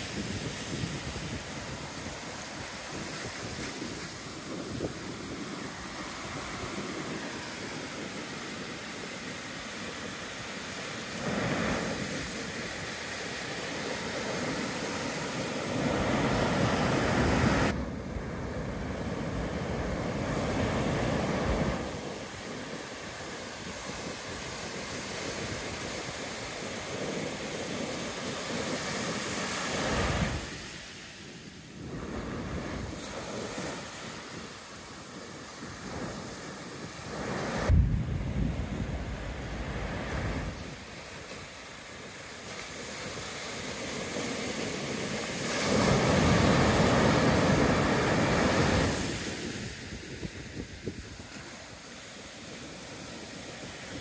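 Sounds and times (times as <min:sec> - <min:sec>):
wind buffeting microphone: 0:00.0 - 0:30.7, 0:31.8 - 0:51.9
waves breaking on sand: 0:00.0 - 0:54.0.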